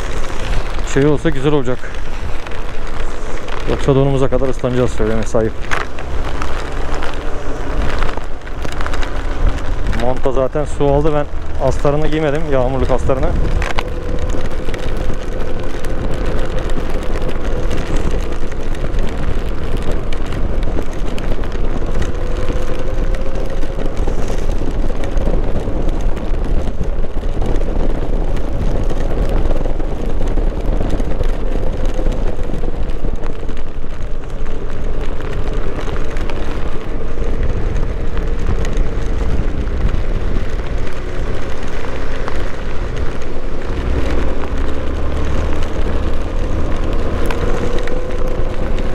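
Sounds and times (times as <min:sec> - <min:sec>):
motorcycle engine running: 0:00.0 - 0:48.9
rain noise: 0:00.0 - 0:48.9
wind rumble on microphone: 0:00.0 - 0:48.9.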